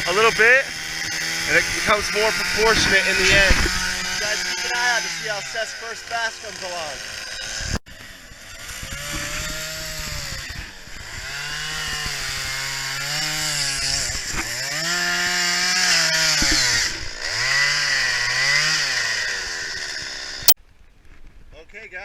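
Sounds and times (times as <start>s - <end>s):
chainsaw cutting wood: 0.0s - 20.6s.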